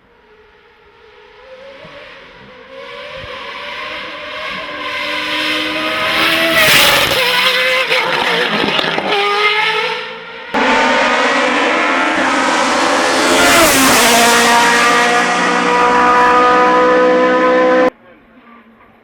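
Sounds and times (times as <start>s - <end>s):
racing car engine at high revs: 0.0s - 18.0s.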